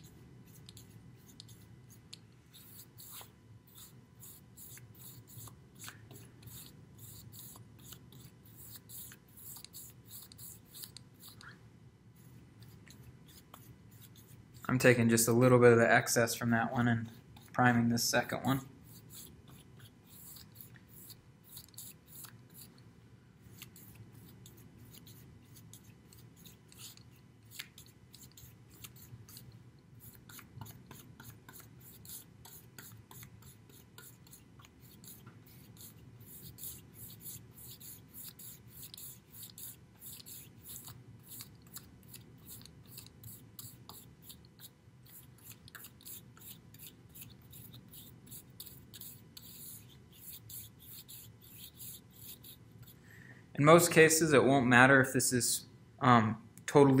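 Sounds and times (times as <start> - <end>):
paintbrush strokes on board: 0.0 - 11.4, 12.2 - 15.4, 16.0 - 22.8, 23.4 - 53.0.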